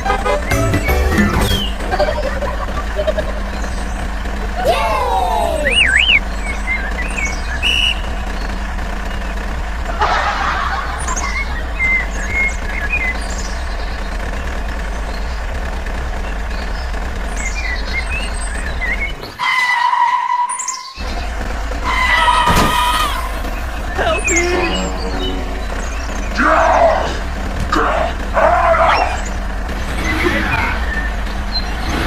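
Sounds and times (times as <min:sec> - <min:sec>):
low motor hum: 0:00.0 - 0:19.4, 0:21.0 - 0:32.0.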